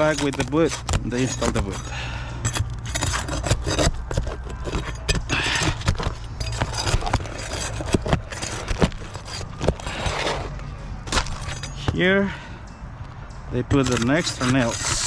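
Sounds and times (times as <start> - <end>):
hand tools scraping on shingles: 0.0 - 12.5, 13.6 - 15.0.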